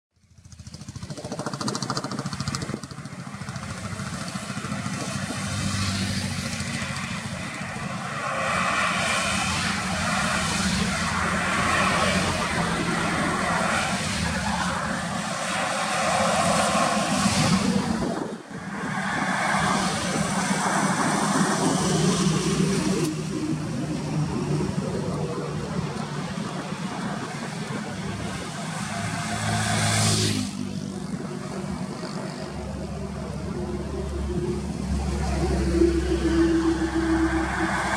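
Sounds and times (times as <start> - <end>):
highway traffic passing: 0.3 - 37.9.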